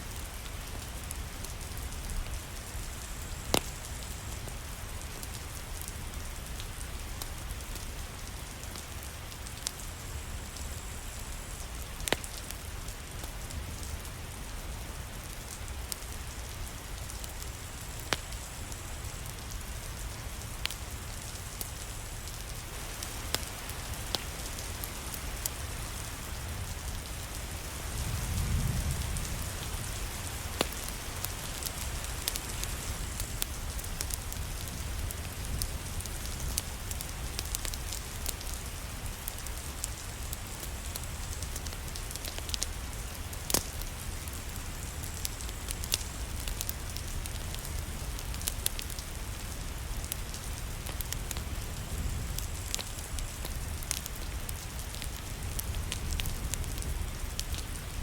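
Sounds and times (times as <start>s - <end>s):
steady rain hissing: 0.0s - 58.0s
wood fire crackling: 0.0s - 58.0s.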